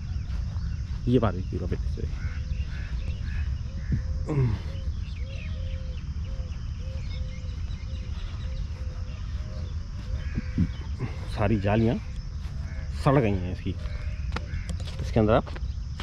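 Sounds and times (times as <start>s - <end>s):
steady low rumble: 0.0s - 15.0s
birds calling: 0.0s - 16.0s.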